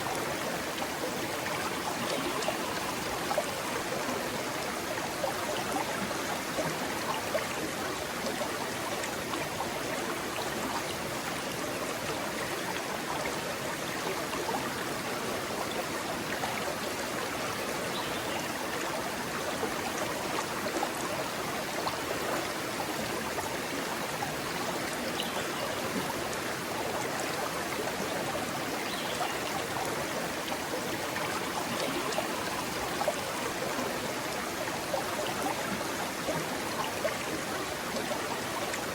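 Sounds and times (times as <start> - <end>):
stream rushing over stones: 0.0 - 38.9.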